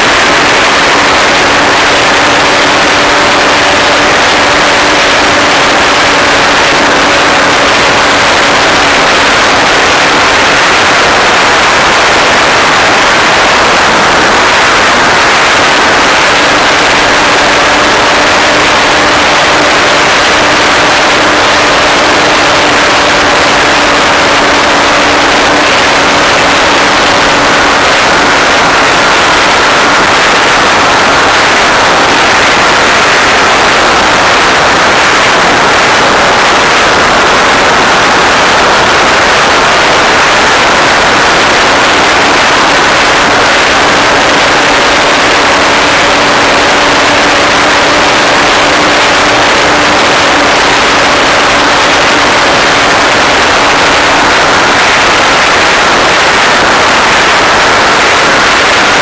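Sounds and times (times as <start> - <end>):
rush of air over microphone: 0.0 - 59.0.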